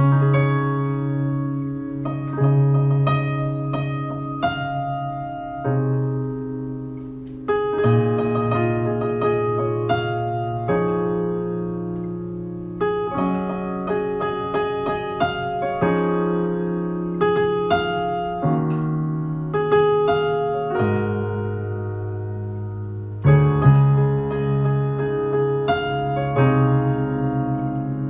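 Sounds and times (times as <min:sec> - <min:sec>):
solo piano chords: 0:00.0 - 0:28.0.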